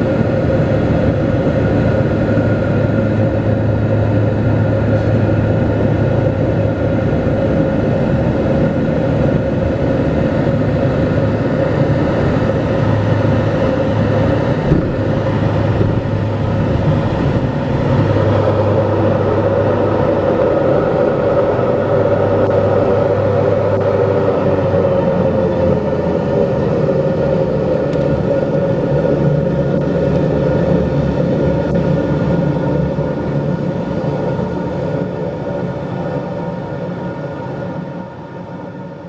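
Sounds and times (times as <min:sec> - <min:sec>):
propeller plane engines droning: 0:00.0 - 0:39.0.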